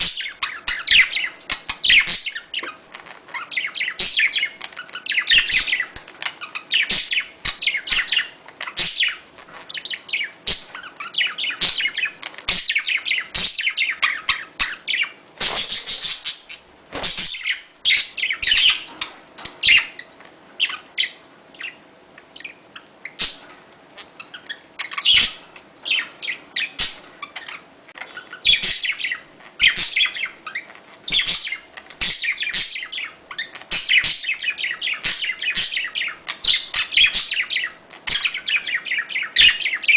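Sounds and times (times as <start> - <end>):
budgerigars chattering: 0.0 - 23.4, 24.0 - 39.9.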